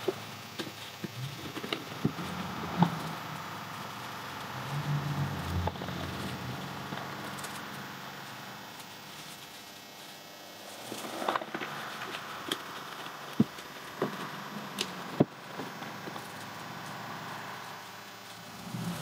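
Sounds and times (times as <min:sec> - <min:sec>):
leafy branches rustling: 0:00.0 - 0:19.0.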